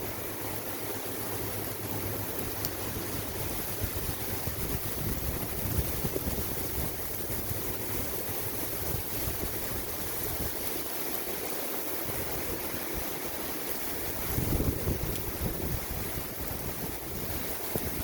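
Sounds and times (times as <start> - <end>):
heavy rain pouring: 0.0 - 18.0
wind rumble on microphone: 1.7 - 11.0, 11.9 - 18.0.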